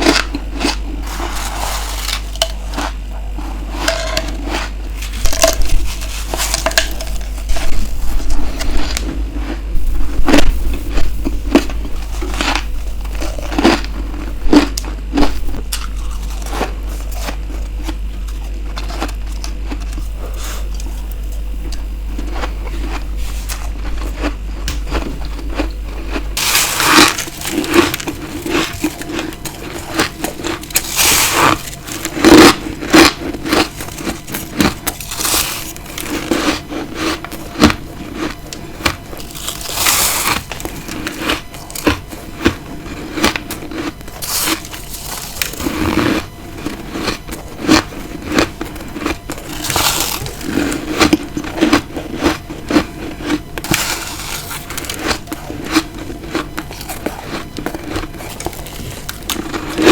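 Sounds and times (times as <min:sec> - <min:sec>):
ice crunching: 0:00.0 - 0:20.8, 0:22.1 - 0:59.9
steady low hum: 0:00.0 - 0:59.9.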